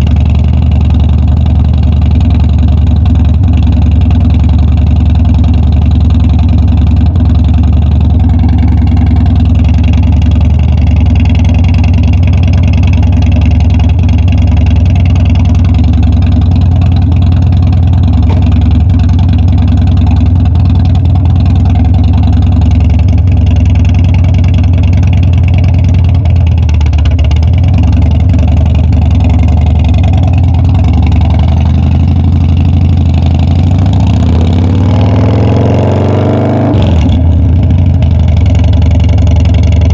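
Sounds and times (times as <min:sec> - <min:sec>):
motorcycle engine running loudly: 0:00.0 - 0:39.9.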